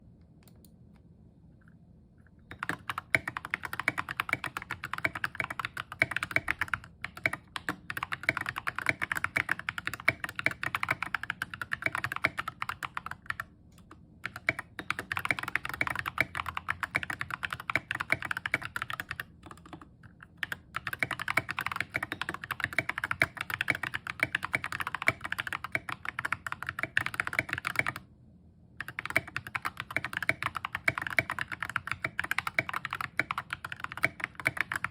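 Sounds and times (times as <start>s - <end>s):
mechanical keyboard typing: 2.5s - 28.1s, 28.8s - 34.9s.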